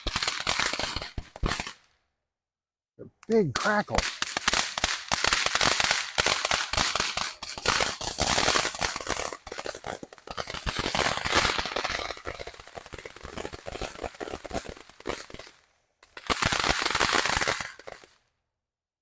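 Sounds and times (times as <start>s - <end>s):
firework crackling: 0.0s - 1.8s, 3.4s - 18.1s.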